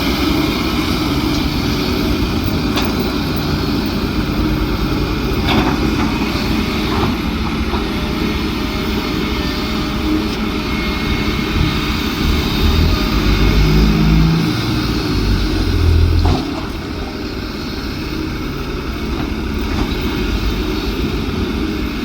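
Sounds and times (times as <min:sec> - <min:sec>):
heavy vehicle engine running: 0:00.0 - 0:22.0.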